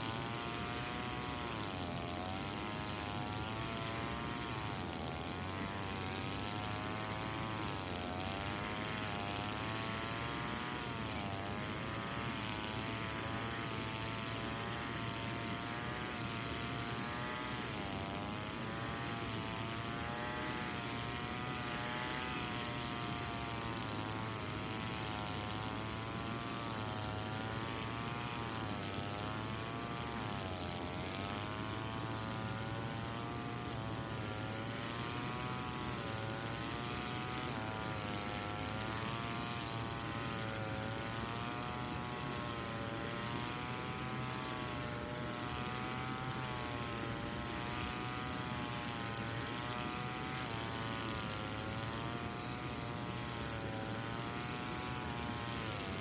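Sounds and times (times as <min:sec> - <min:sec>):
brush cutter buzzing: 0:00.0 - 0:56.0.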